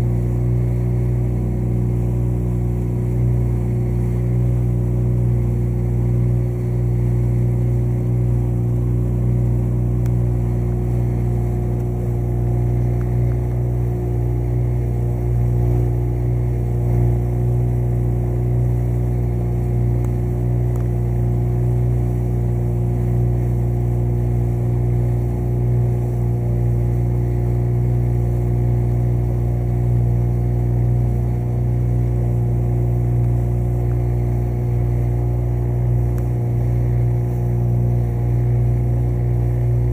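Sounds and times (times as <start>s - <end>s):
motorboat engine droning: 0.0s - 39.9s.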